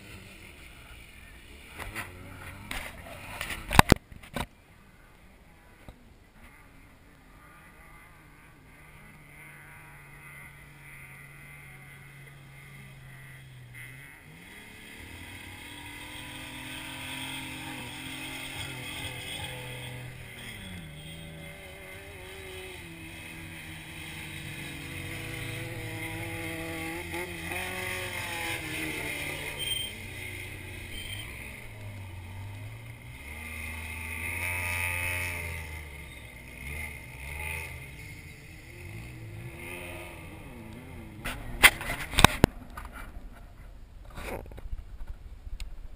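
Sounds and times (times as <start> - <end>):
race vehicle engine revving: 0.0 - 4.0, 7.3 - 43.4.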